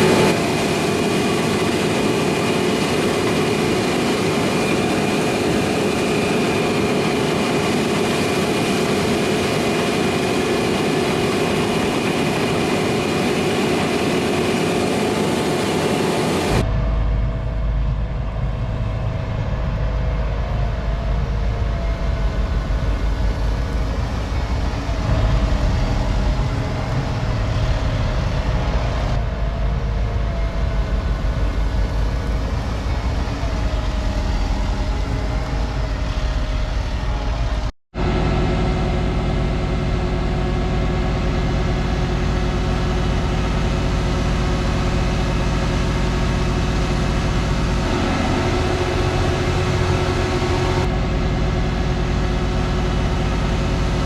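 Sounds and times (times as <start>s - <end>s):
diesel farm machinery running: 0.0s - 54.0s
steady engine sound: 0.0s - 54.0s.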